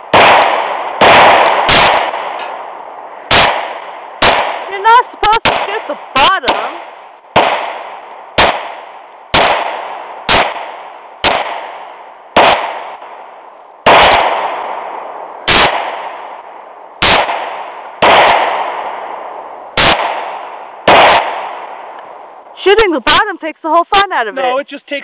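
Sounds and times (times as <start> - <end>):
pistol shots echoing: 0.0 - 22.4.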